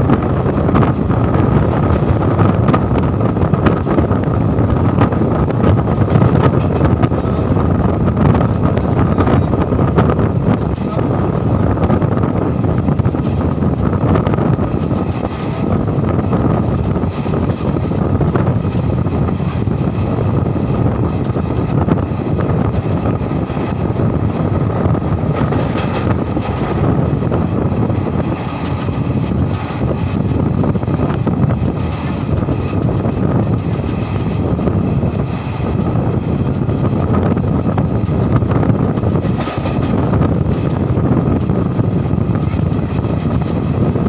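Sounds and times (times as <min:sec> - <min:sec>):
train rumble and rush: 0:00.0 - 0:44.0.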